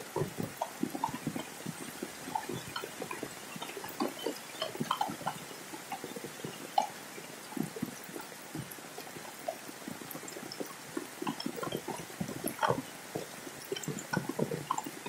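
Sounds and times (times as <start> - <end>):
raindrops tapping on metal roof: 0.0 - 15.0
steady hiss of rain: 0.0 - 15.0.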